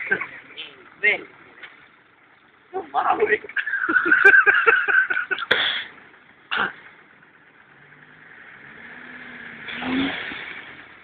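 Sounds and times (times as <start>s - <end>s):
van engine revving: 0.0s - 11.0s.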